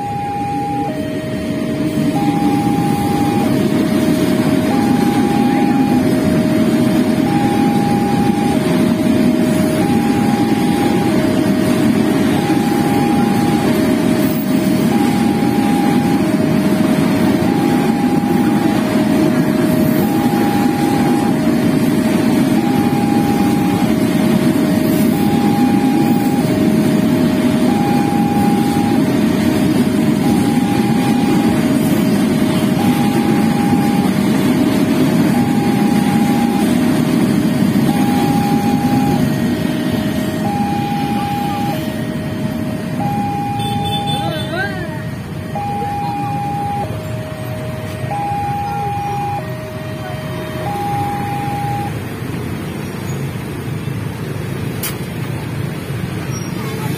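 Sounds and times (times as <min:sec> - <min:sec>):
crossing alarm two-tone chime: 0:00.0 - 0:52.0
freight train rumbling and clattering: 0:00.0 - 0:56.9.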